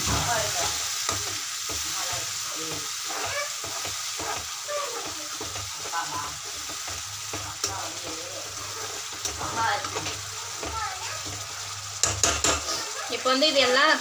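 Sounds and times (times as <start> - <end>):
spoon scraping a pan: 0.0 - 13.9
sauce sizzling: 0.0 - 14.0.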